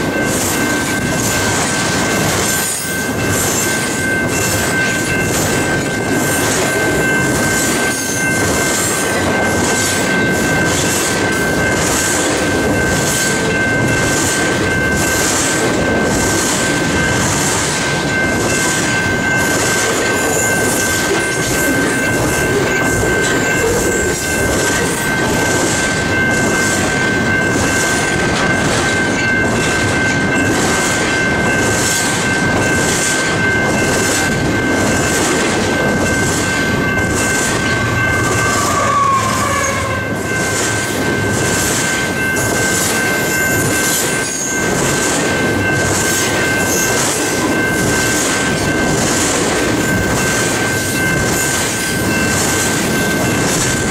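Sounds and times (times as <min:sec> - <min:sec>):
rail clatter: 0:00.0 - 0:53.9
train wheels rumbling on rail: 0:00.0 - 0:53.9.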